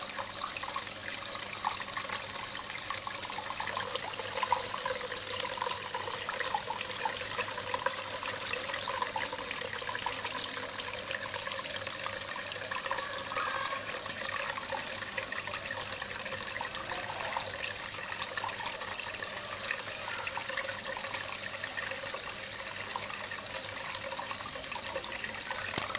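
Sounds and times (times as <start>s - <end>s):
waterfall splashing into pond: 0.0s - 25.9s.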